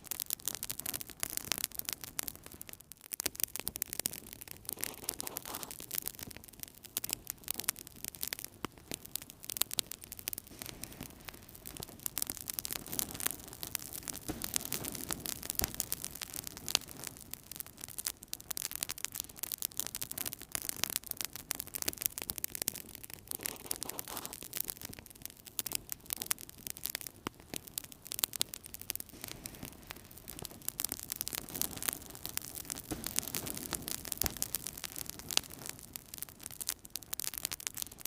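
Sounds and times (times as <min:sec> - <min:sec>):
fire crackling and popping: 0:00.0 - 0:38.0
low noise of flames: 0:00.0 - 0:38.0.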